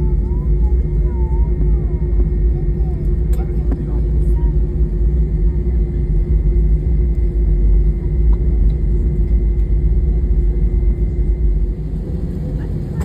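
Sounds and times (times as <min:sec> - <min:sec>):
aircraft cabin engine rumble: 0:00.0 - 0:13.0
constant hum: 0:00.0 - 0:13.0.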